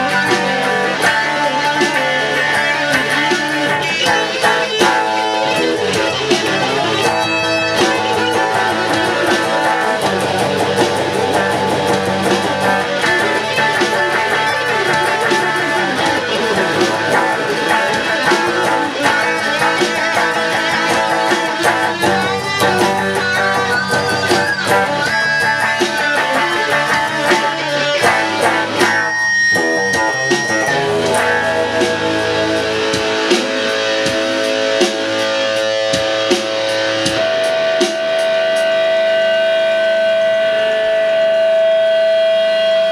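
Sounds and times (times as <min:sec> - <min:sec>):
electric guitar lead line: 0:00.0 - 0:42.9
steady held guitar tone: 0:00.0 - 0:42.9
strummed guitar chords: 0:00.0 - 0:42.9.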